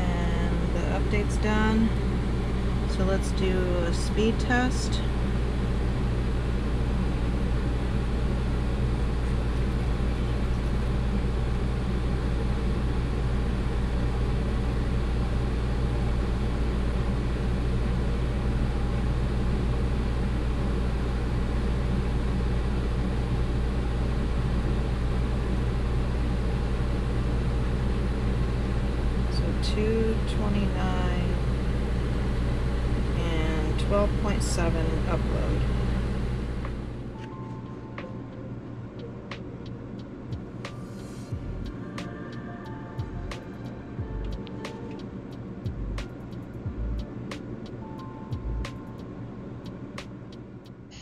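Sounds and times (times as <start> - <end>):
low machine hum: 0.0 - 51.0.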